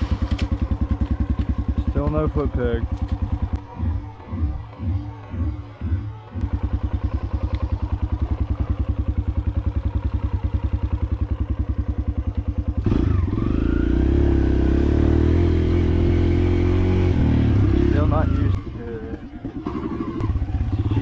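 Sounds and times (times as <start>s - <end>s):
dirt bike engine idling and revving: 0.0s - 21.0s.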